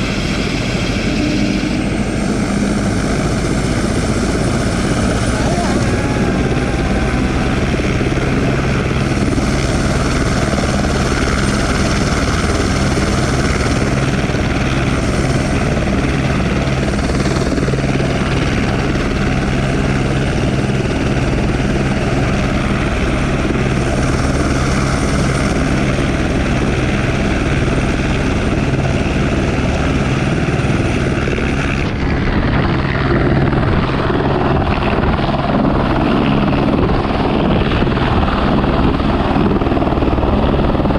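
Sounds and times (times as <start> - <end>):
helicopter rotor beating: 0.0 - 40.9
high turbine whine: 0.0 - 40.9.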